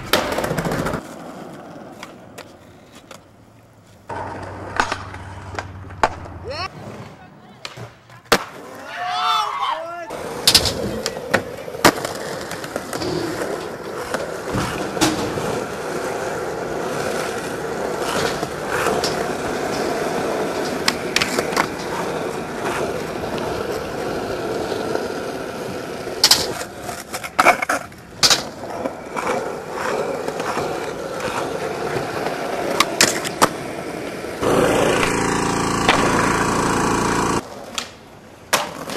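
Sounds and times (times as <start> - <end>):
skateboard clacking: 0.0 - 8.9, 10.1 - 38.9
skateboard wheels rolling on concrete: 0.0 - 38.9.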